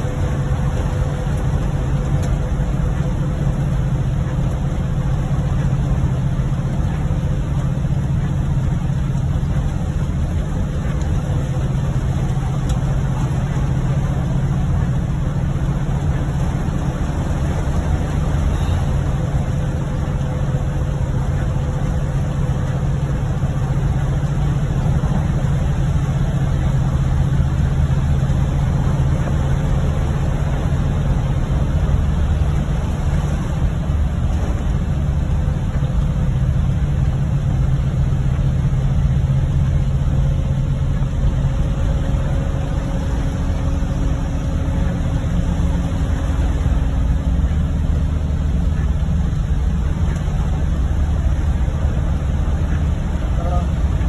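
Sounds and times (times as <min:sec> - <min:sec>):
engine and road hum: 0:00.0 - 0:54.0
rain on car: 0:00.0 - 0:54.0
tyre spray on wet road: 0:00.0 - 0:54.0.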